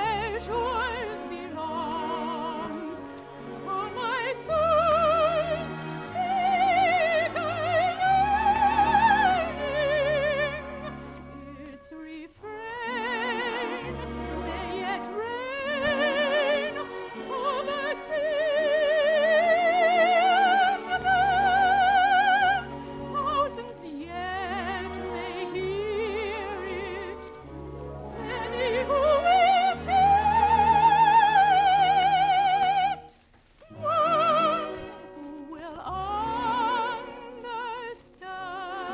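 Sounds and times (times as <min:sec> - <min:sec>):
orchestral accompaniment: 0:00.0 - 0:33.0, 0:33.6 - 0:38.9
operatic soprano singing: 0:00.0 - 0:38.9.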